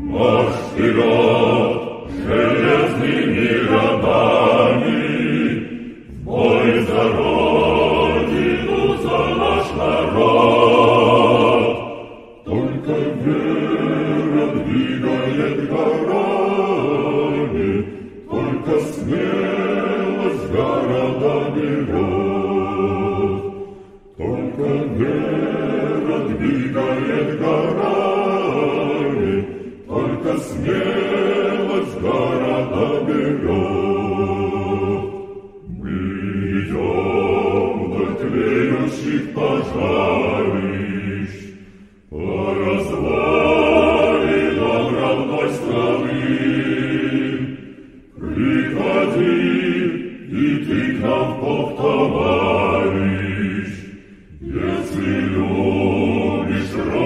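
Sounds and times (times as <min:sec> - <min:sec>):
choir singing a military march: 0:00.0 - 0:57.0.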